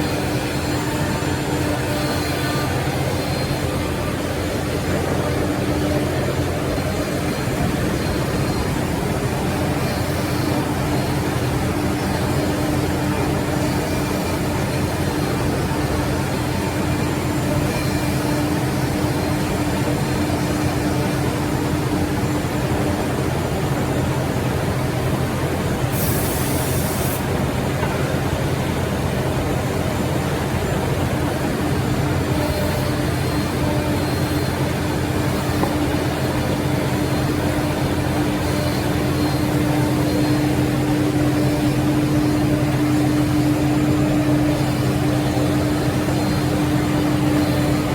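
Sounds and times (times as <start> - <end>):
machine motors humming: 0.0 - 47.9.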